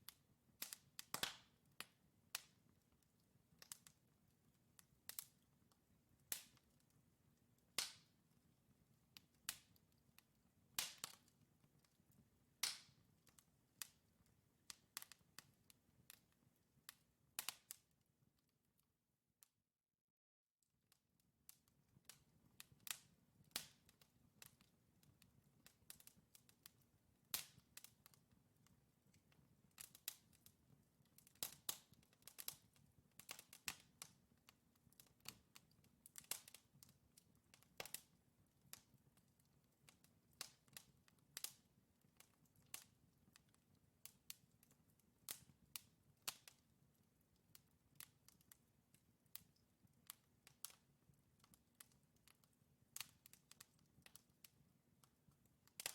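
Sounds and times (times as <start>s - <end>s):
wood fire crackling: 0.0s - 18.0s, 21.5s - 55.9s.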